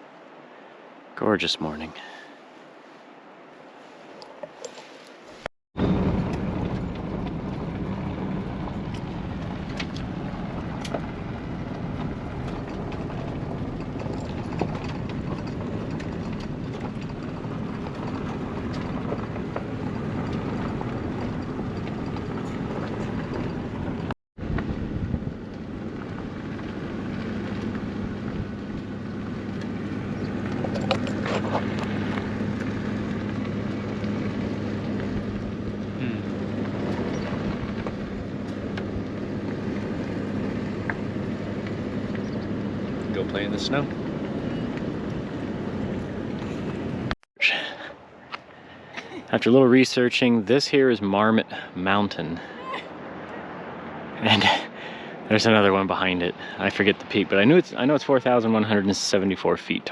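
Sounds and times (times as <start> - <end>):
road and wind noise: 0.0 - 59.9
vehicle engine hum: 2.8 - 59.9.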